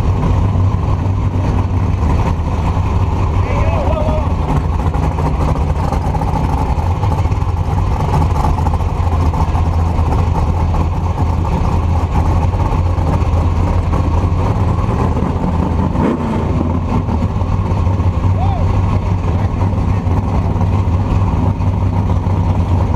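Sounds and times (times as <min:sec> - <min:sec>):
vehicle engine rumbling: 0:00.0 - 0:22.9.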